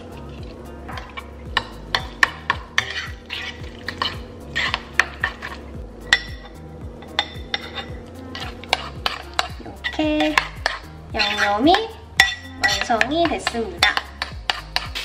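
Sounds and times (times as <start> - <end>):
metal spoon stirring paste in bowl: 0.0 - 15.0
spoon clinking against bowl: 0.9 - 15.0.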